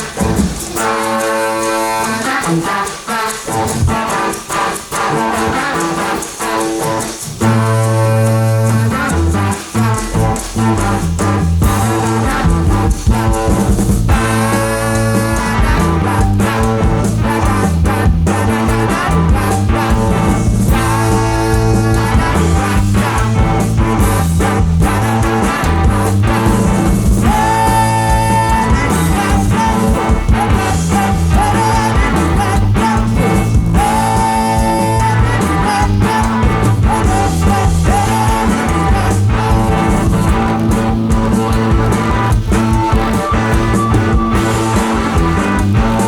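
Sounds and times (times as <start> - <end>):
person singing: 0.0 - 46.0
rock music: 0.0 - 46.0.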